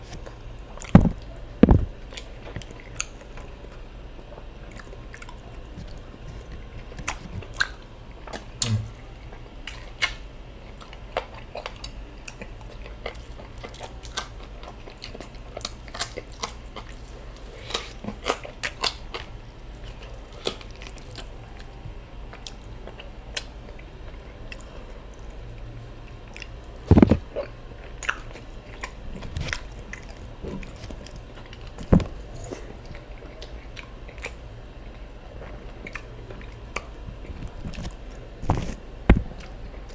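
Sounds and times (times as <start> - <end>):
person chewing food: 0.1 - 25.4, 26.0 - 39.9.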